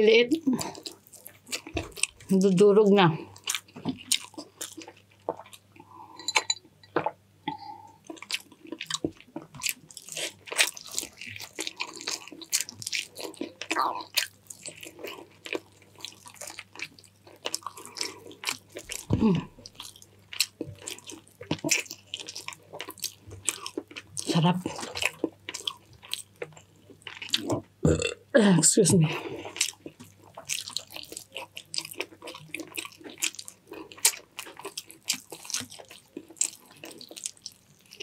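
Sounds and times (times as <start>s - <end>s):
person chewing food: 0.5s - 2.6s, 3.2s - 28.2s, 29.2s - 38.0s.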